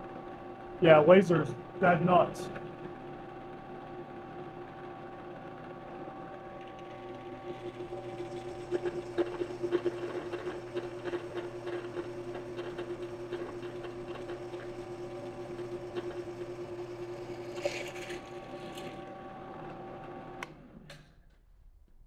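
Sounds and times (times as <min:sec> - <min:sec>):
drill press motor hum: 0:00.0 - 0:21.3.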